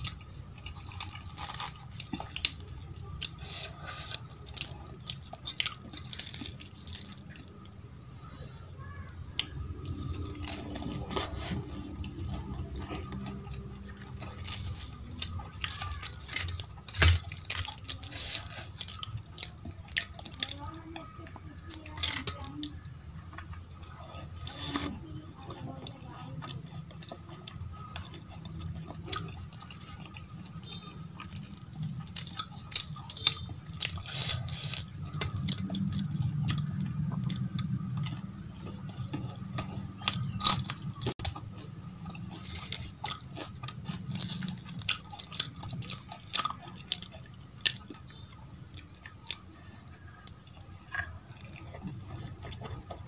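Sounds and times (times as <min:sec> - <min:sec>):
chewing and crunching food: 0:00.0 - 0:53.0.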